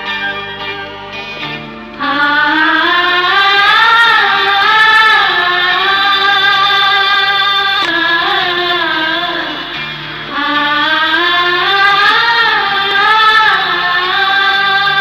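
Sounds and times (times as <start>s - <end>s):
person singing: 2.0s - 15.0s.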